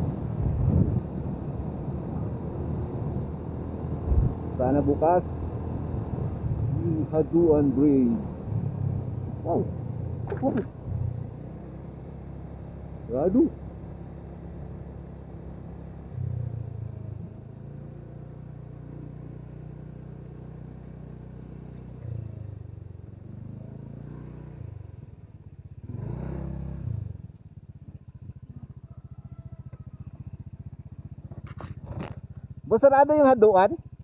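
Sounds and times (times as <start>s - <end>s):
motorcycle engine revving: 1.8s - 34.0s.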